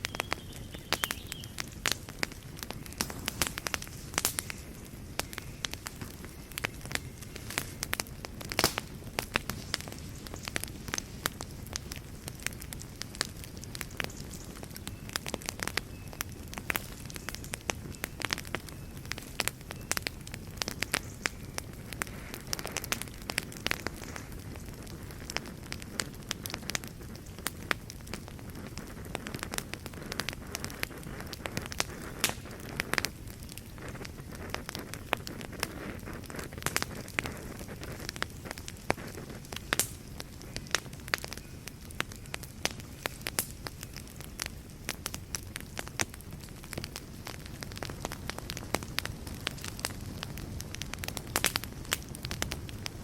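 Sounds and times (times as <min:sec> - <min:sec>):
flame rumble: 0:00.0 - 0:53.0
wood fire crackling and popping: 0:00.0 - 0:53.0.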